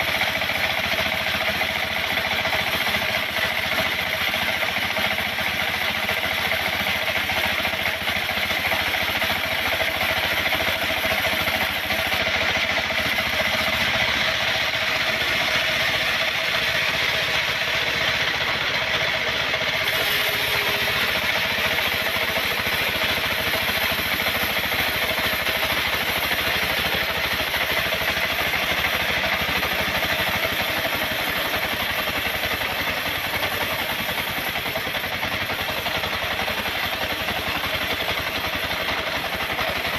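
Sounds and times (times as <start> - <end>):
saw engine running steadily: 0.0 - 39.9.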